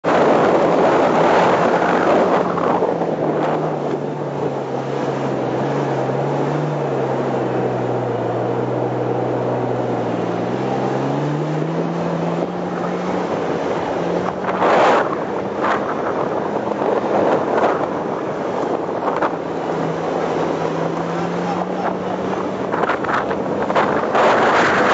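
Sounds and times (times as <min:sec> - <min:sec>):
off-road vehicle engine: 0:00.0 - 0:24.9.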